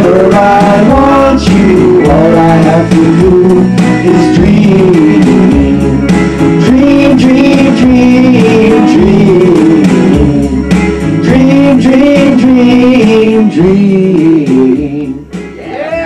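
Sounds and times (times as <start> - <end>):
karaoke backing track: 0.0 - 16.0
men singing karaoke: 0.0 - 16.0.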